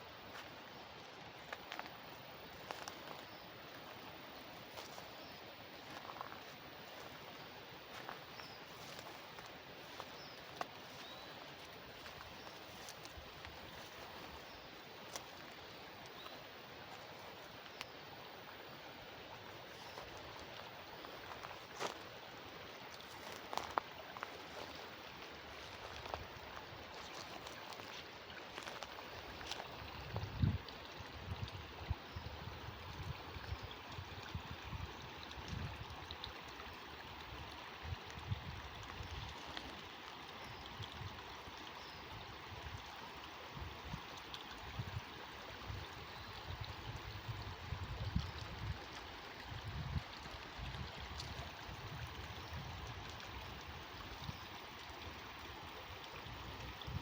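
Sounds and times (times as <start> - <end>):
water running in a channel: 0.0 - 57.0.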